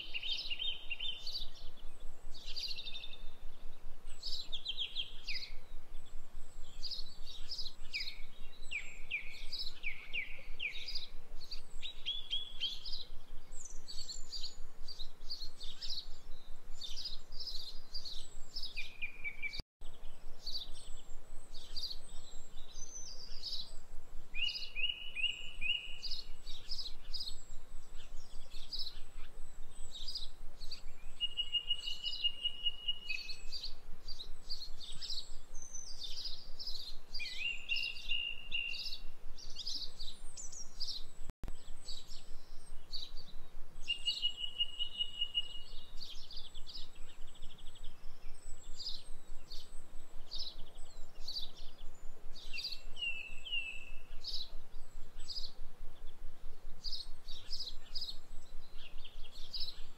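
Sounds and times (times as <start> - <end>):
rapid bird trills: 0.0 - 59.9
songbirds chirping: 0.0 - 59.9.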